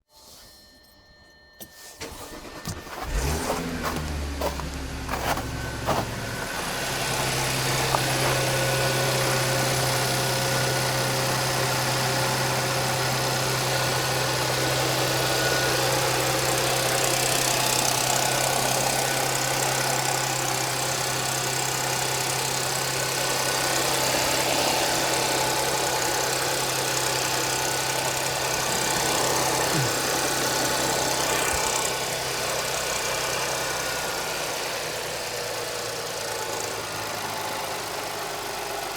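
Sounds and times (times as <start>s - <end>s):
car engine idling: 2.0s - 38.9s.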